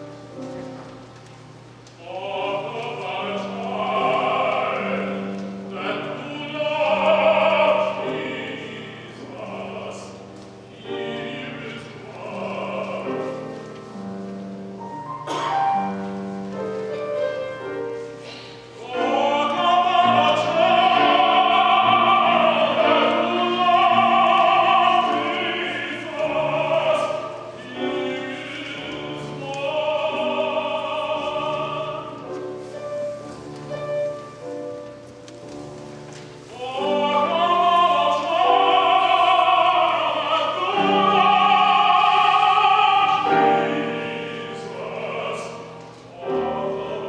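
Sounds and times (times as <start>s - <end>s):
piano accompaniment: 0.0s - 47.0s
tenor singing classical style: 0.0s - 47.0s.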